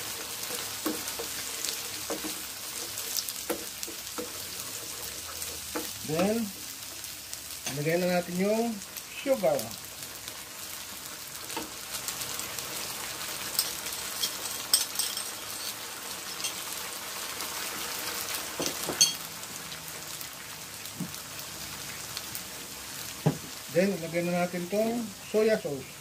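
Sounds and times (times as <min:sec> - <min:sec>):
sauce sizzling in a frying pan: 0:00.0 - 0:26.0.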